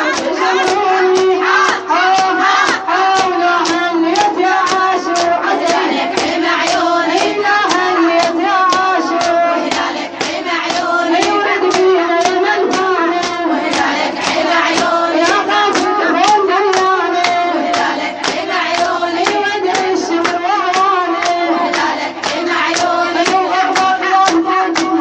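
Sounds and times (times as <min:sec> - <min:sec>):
hand strikes beating time: 0:00.0 - 0:25.0
woman singing a lament: 0:00.0 - 0:25.0.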